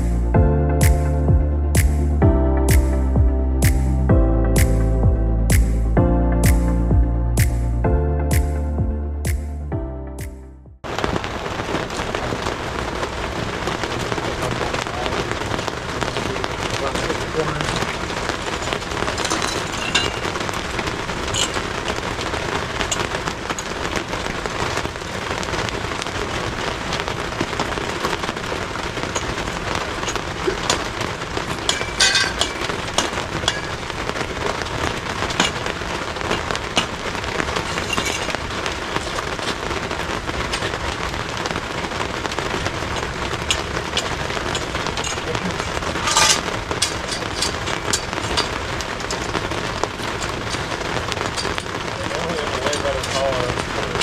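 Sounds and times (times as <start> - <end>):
pouring rain: 0.0 - 9.3, 10.2 - 54.0.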